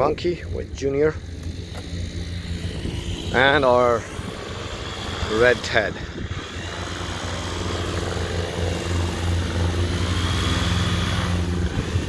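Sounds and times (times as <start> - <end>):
light aircraft engine and propeller: 0.0 - 12.0.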